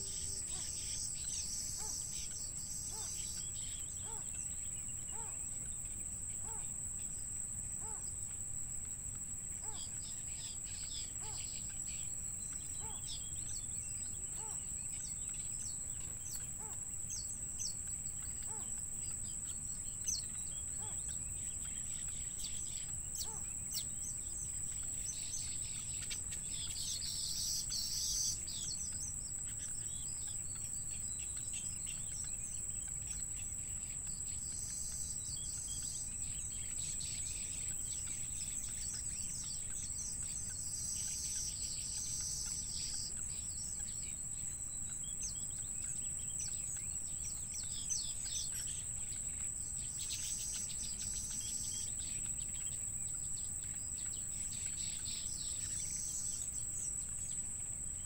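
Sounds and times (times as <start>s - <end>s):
birds chirping: 0.0s - 58.0s
high-pitched insect drone: 7.8s - 58.0s.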